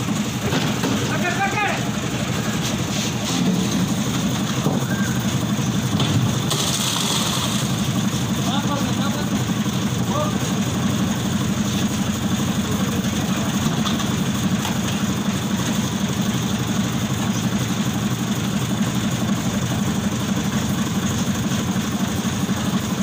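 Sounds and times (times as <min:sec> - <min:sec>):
engine chugging steadily: 0:00.0 - 0:23.0.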